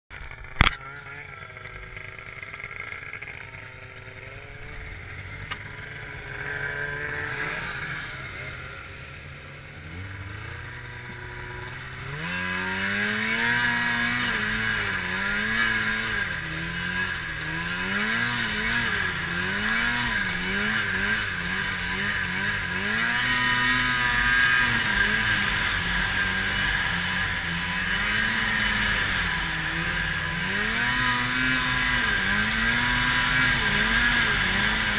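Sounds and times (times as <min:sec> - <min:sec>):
snowmobile engine revving: 0:00.2 - 0:34.9.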